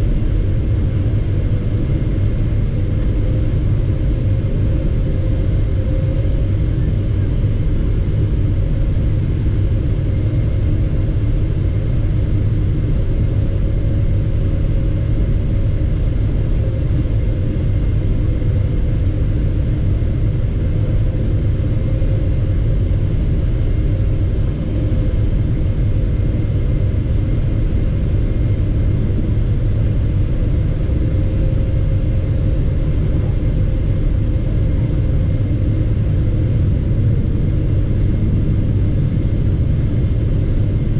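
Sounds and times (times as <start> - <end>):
airplane cabin rumble: 0.0 - 40.9
steady droning hum: 0.0 - 40.9.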